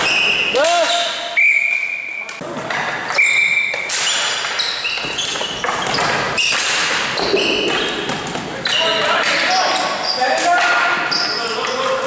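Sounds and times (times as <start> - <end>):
sneakers squeaking: 0.0 - 12.0
sticks and ball clattering: 0.0 - 12.0.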